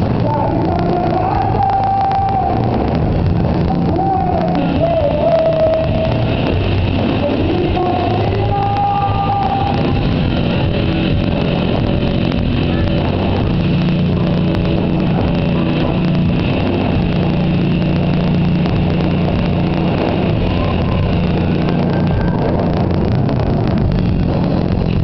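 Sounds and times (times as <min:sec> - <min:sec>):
bass guitar: 0:00.0 - 0:25.0
distorted electric guitar: 0:00.0 - 0:25.0
drums: 0:00.0 - 0:25.0.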